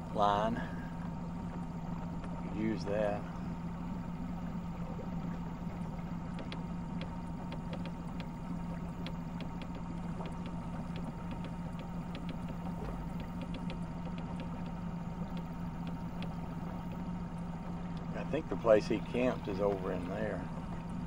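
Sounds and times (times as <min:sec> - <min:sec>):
boat motor humming: 0:00.0 - 0:21.0
faint ticks: 0:01.0 - 0:02.5, 0:03.6 - 0:20.0.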